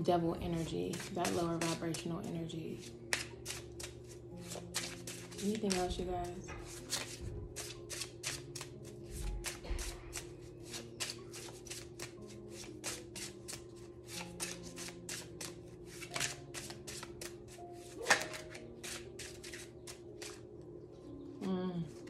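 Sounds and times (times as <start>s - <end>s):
soft background music: 0.0s - 22.0s
cards being shuffled: 0.9s - 2.0s, 2.8s - 20.5s.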